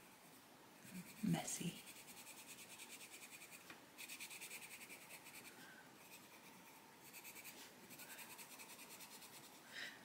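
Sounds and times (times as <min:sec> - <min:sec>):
pencil scratching on paper: 0:00.8 - 0:09.6.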